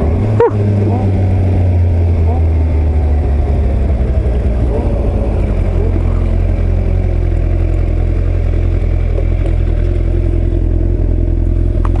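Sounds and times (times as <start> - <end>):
heavy low rumble: 0.0 - 12.0
motorcycle engine riding: 0.0 - 12.0.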